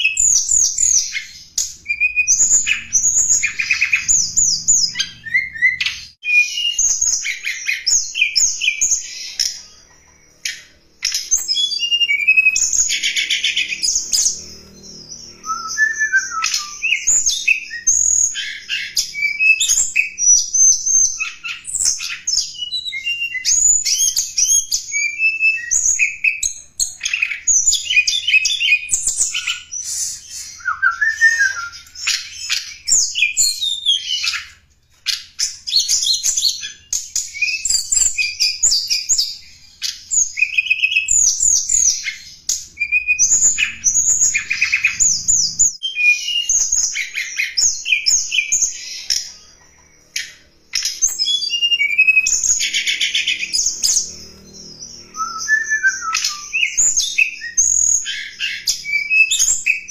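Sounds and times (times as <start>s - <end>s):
bird song chirps and trills: 0.0s - 59.9s.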